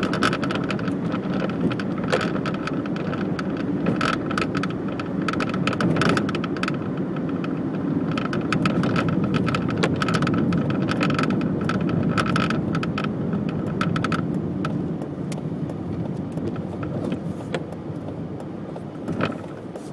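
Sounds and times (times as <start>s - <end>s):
car engine low rumble: 0.0s - 19.9s.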